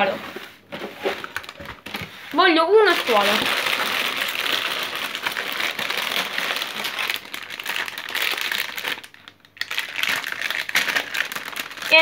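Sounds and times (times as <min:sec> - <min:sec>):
foil packets crinkling: 0:01.1 - 0:12.0.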